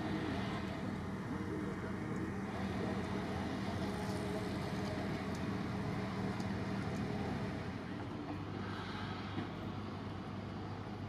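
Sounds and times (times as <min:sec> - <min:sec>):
diesel engine idling hum: 0:00.0 - 0:11.0.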